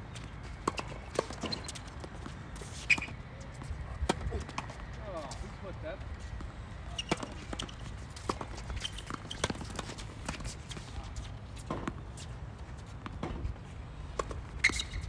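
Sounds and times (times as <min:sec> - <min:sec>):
players' footsteps: 0:00.1 - 0:15.0.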